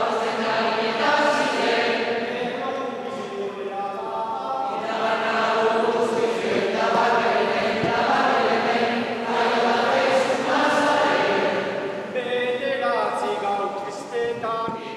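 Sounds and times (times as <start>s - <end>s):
group singing unaccompanied: 0.0s - 14.9s.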